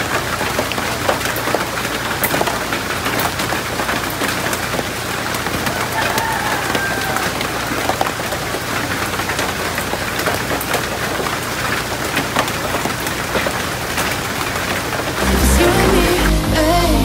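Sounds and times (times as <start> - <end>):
rain on leaves: 0.0 - 16.8.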